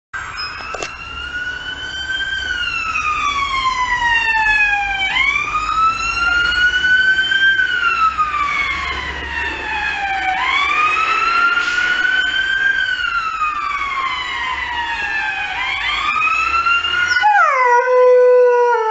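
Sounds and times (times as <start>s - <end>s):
emergency siren wailing: 0.2s - 18.9s.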